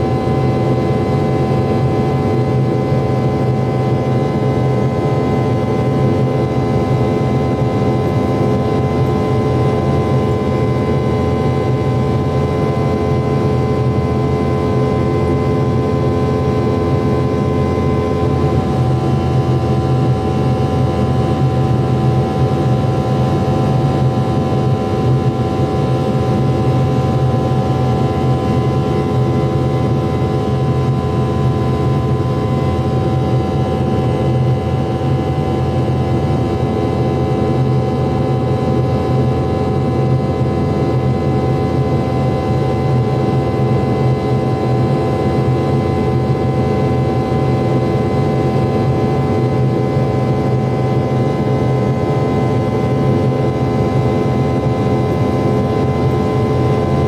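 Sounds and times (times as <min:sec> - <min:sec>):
airliner engines humming in cabin: 0:00.0 - 0:57.0.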